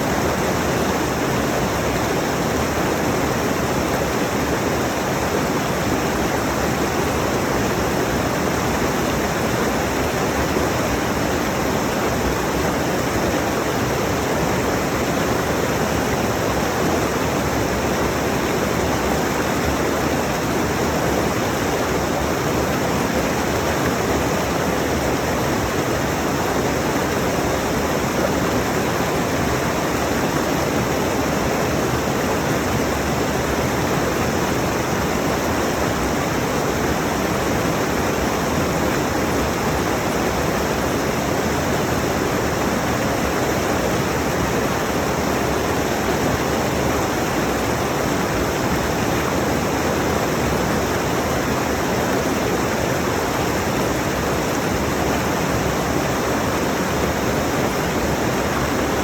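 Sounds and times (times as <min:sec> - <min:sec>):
water running over rocks: 0:00.1 - 0:59.0.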